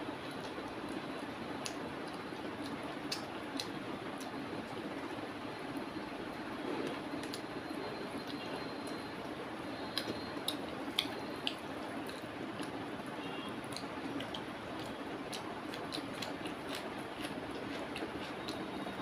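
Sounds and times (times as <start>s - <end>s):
wet squishing of food: 0.2s - 19.0s.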